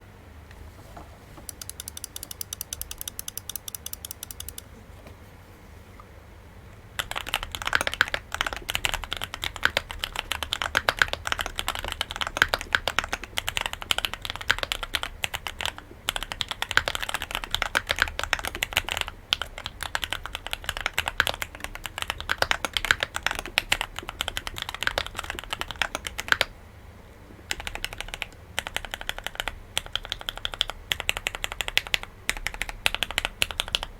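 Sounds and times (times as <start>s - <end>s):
fast even ticking: 1.4s - 4.7s, 7.0s - 26.5s, 27.5s - 33.9s
mechanical keyboard typing: 1.4s - 4.8s, 7.0s - 26.5s, 27.5s - 33.9s.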